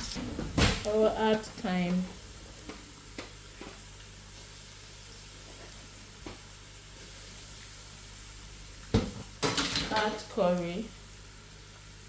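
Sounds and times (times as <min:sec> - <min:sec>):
oil sizzling in a pot: 0:00.8 - 0:12.0.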